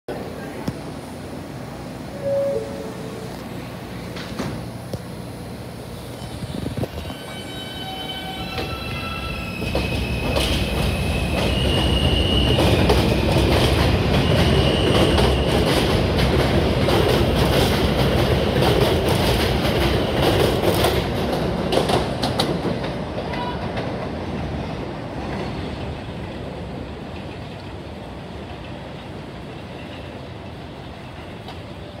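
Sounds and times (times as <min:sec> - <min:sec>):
subway motors whining: 0:00.1 - 0:32.0.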